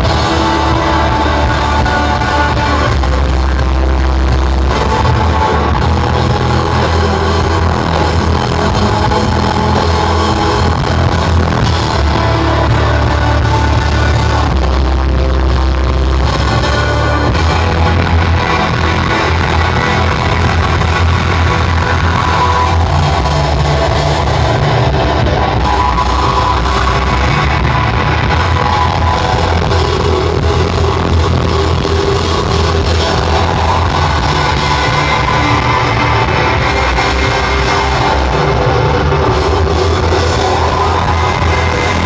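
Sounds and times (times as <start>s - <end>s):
loud live rock band: 0.0s - 42.0s.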